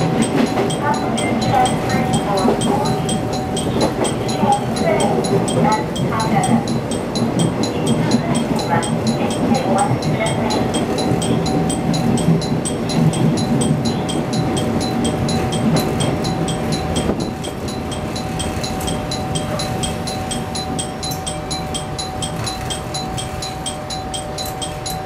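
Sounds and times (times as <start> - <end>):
fast high-pitched clicking: 0.0 - 25.0
train motor and wheel rumble: 0.0 - 25.0.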